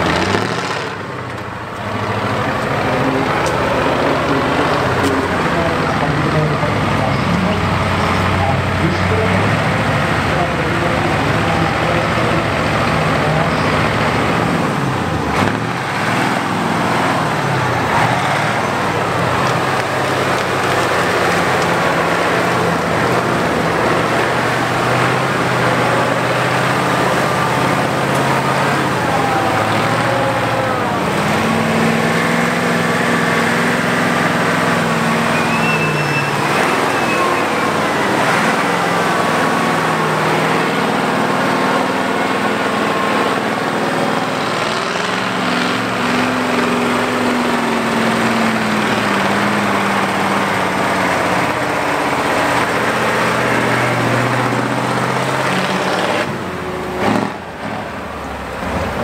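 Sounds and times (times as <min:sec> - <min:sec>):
diesel engine revving under load: 0:00.0 - 0:59.0.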